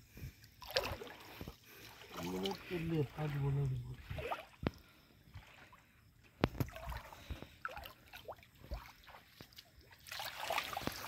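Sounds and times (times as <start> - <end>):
river water splashing: 0.4 - 11.0.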